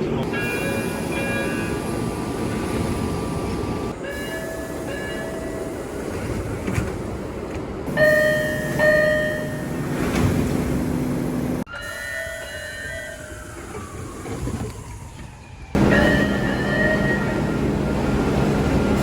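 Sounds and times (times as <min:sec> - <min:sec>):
train rumbling at platform: 0:00.0 - 0:19.0.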